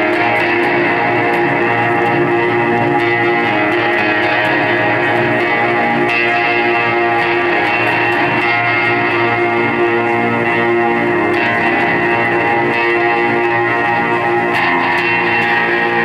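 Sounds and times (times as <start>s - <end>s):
electric guitar ringing chords: 0.0s - 16.0s.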